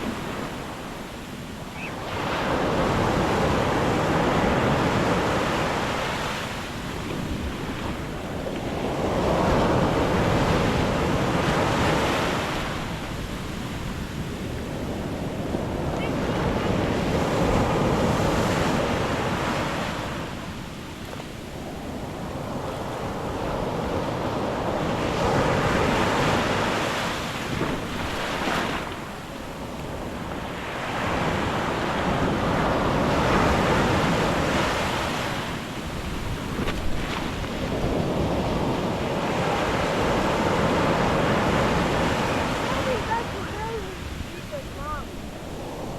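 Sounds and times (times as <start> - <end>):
surf breaking on a beach: 0.0 - 45.9.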